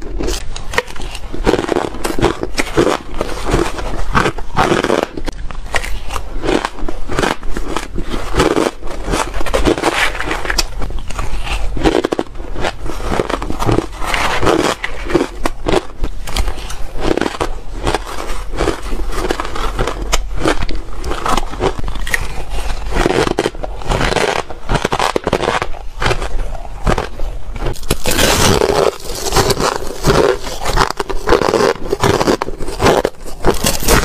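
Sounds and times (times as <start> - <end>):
crushed ice being chewed: 0.0 - 34.0.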